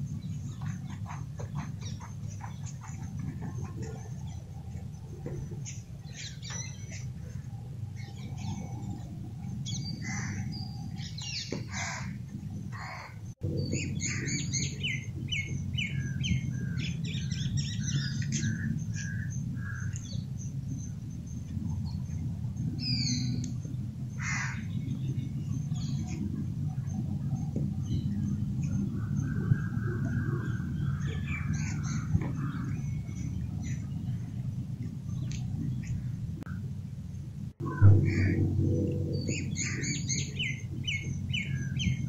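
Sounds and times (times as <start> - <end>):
birds chirping: 0.0 - 36.7, 37.6 - 42.0
steady low rumble: 0.0 - 42.0.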